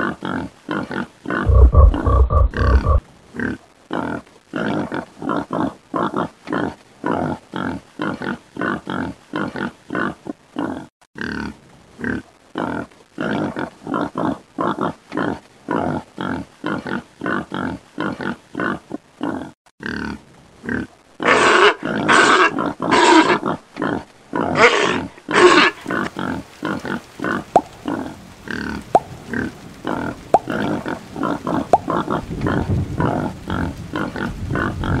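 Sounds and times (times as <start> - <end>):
pig calls: 0.0 - 35.0
pigs grunting: 0.0 - 35.0.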